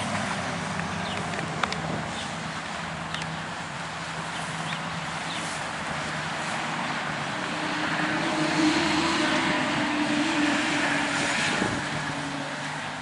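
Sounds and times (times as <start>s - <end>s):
aircraft engine droning overhead: 0.0s - 13.0s.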